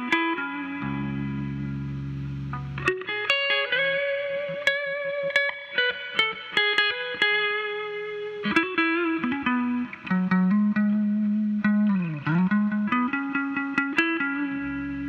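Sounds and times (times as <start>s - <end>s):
electric guitar single notes: 0.0s - 15.0s.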